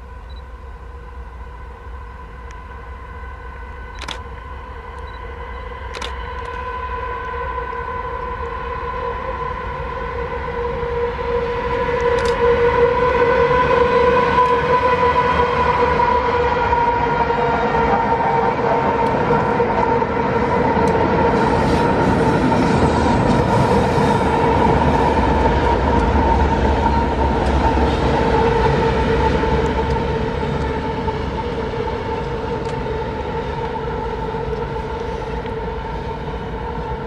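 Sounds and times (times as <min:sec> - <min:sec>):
diesel locomotive engines: 0:00.0 - 0:37.0
high-pitched whine: 0:00.0 - 0:37.0.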